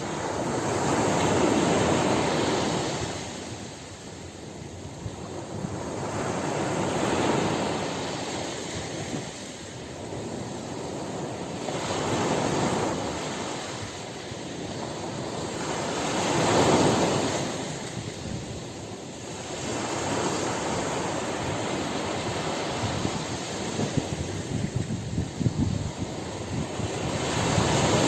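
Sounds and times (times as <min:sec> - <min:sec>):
ocean surf breaking on shore: 0:00.0 - 0:28.0.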